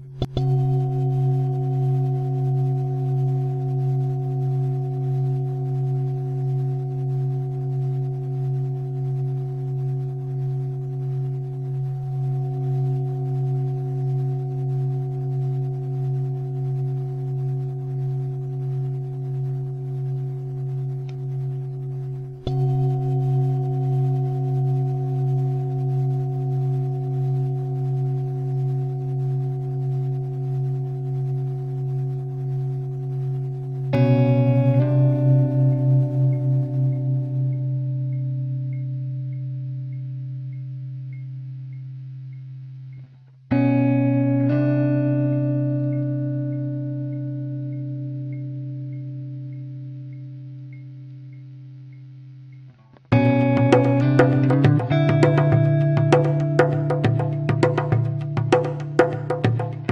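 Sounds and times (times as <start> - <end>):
sustained musical drone: 0.0 - 42.5, 43.5 - 59.9.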